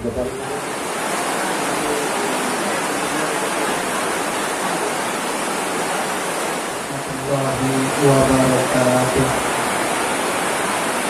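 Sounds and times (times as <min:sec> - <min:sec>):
heavy rain on a fabric tent roof: 0:00.0 - 0:11.0.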